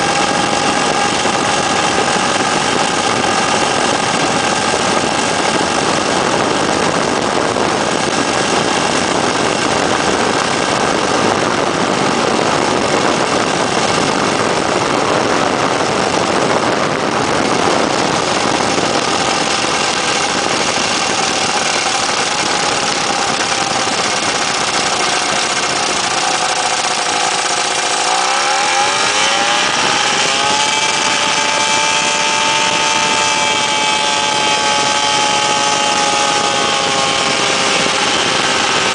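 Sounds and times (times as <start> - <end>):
broad rushing noise: 0.0 - 38.9
ultralight aircraft engine and propeller: 0.0 - 38.9.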